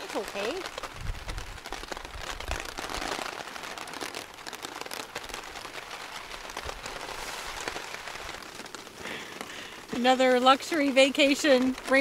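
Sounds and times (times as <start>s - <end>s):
hard rain on a tarp: 0.0s - 12.0s.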